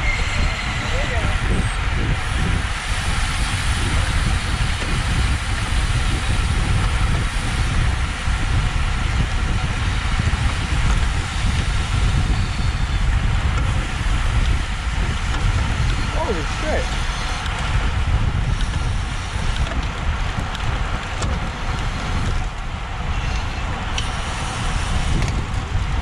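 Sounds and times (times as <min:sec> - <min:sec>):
bicycle tyre noise: 0:00.0 - 0:26.0
wind rush: 0:00.0 - 0:26.0.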